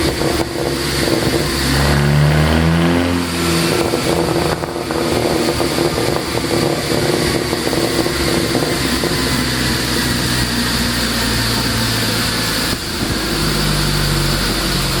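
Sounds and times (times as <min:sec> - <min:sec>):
car engine idling: 0:00.0 - 0:15.0
car exhaust popping and crackling: 0:00.0 - 0:15.0.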